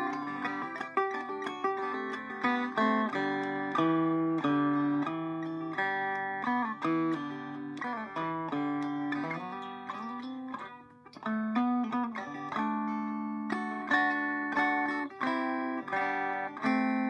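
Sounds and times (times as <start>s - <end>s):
electric banjo plucked notes: 0.0s - 17.0s.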